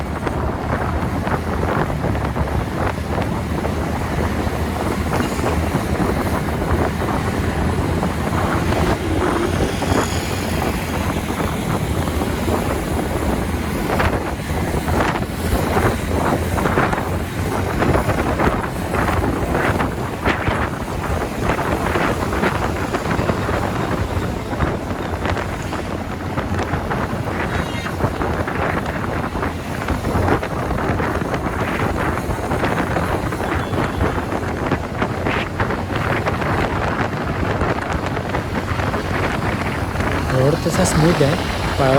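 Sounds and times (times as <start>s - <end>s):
engine and road rumble: 0.0s - 41.9s
wind buffeting microphone: 0.0s - 41.9s.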